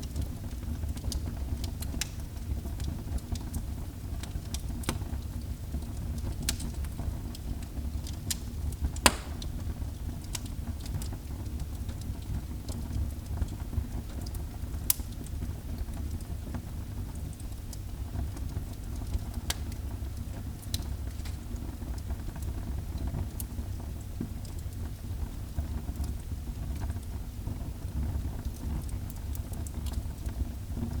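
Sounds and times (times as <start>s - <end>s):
wood fire crackling in fireplace: 0.0s - 31.0s.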